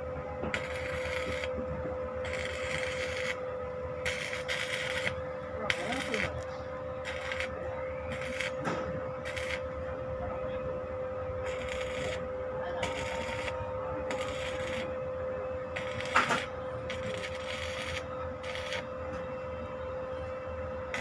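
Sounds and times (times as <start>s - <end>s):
shredder motor whine: 0.6s - 9.8s, 10.9s - 21.0s.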